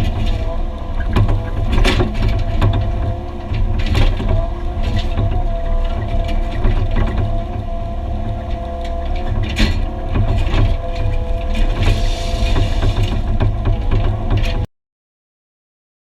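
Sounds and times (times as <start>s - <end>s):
excavator engine whining: 0.0s - 14.7s.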